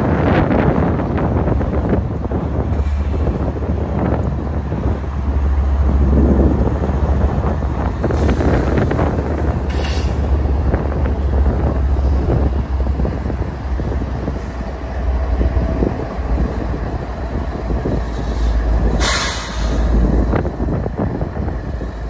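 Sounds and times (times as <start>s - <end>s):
diesel locomotive engine drone: 0.0s - 22.0s
wheels rumbling on rail: 0.0s - 22.0s.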